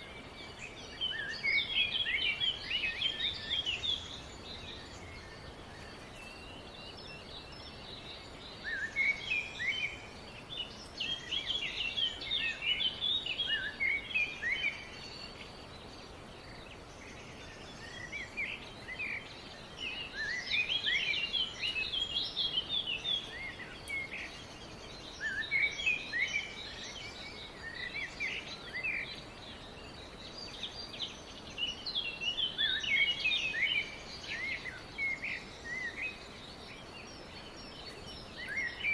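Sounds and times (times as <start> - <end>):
background hiss: 0.0 - 38.9
birds singing: 0.0 - 38.9.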